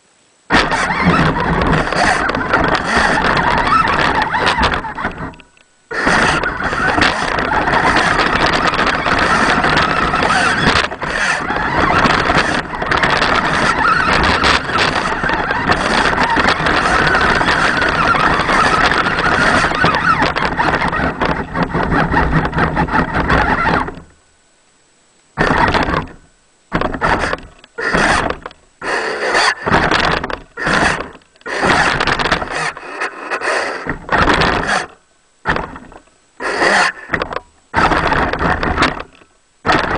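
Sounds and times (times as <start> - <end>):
toy truck drivetrain noise: 0.5 - 24.0, 26.8 - 39.9.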